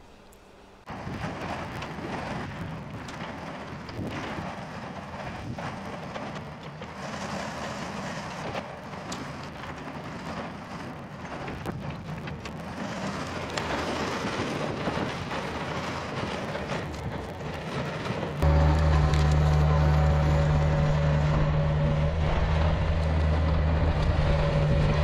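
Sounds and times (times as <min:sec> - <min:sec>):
excavator diesel engine running: 0:00.9 - 0:25.0
tracks clanking: 0:00.9 - 0:25.0.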